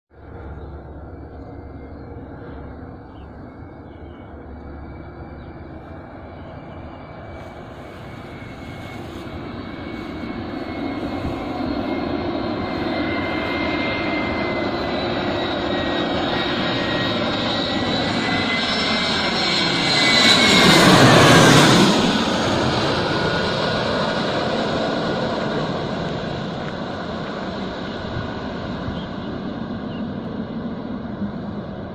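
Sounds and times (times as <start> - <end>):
airplane flying low overhead: 0.1 - 31.9.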